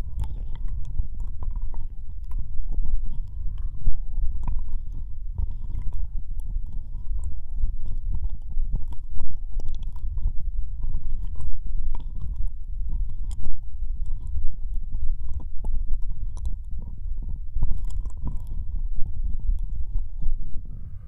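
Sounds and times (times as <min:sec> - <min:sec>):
wet licking and smacking: 0:00.0 - 0:20.4
steady low rumble: 0:00.0 - 0:21.0.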